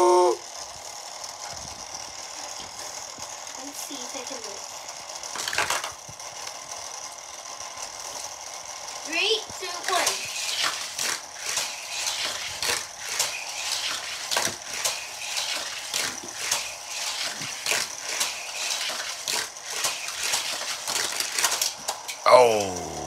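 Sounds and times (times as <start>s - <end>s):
plastic toy cars clicking and rattling: 3.3s - 22.3s.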